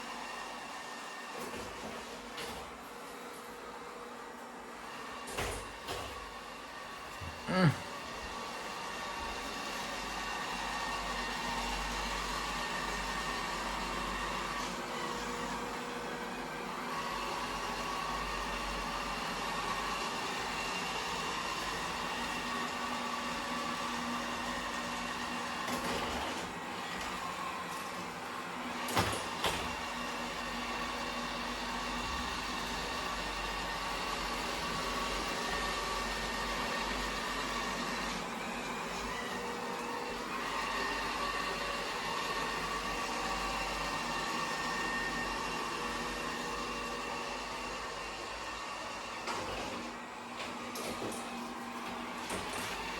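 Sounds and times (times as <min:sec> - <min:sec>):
robot vacuum whirring: 0:04.1 - 0:52.9.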